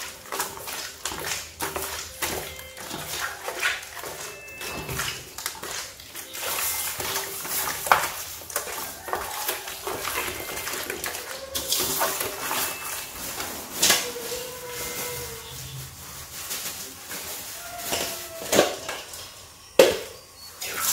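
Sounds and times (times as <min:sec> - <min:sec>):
wet squelching: 0:00.0 - 0:19.3.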